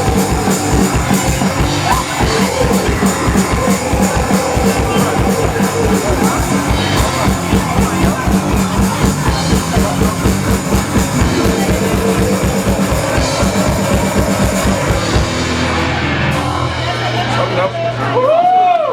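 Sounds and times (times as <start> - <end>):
fast dense drumming: 0.0 - 17.5
live rock band playing: 0.0 - 18.4
distorted guitar: 0.0 - 18.6.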